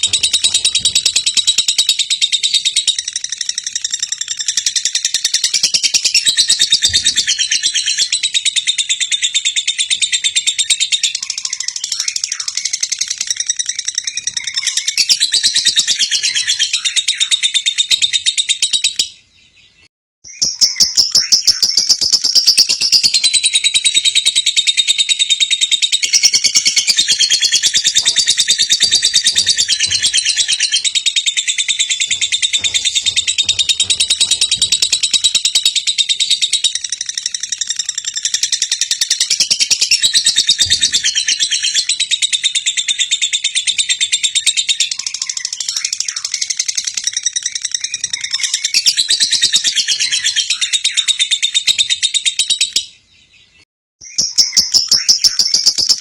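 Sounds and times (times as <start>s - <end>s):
bird rapid high chattering: 0.0s - 19.0s, 20.4s - 52.8s.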